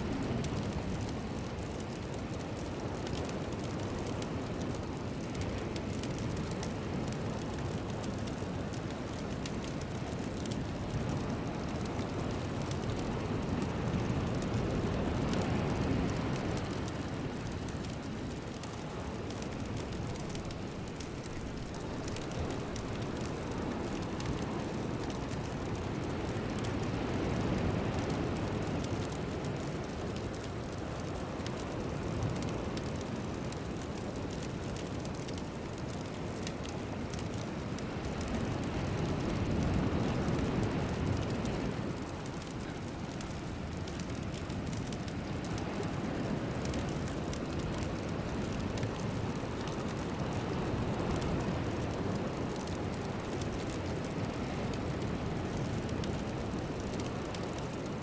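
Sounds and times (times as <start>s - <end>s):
rain-like rushing noise: 0.0s - 58.0s.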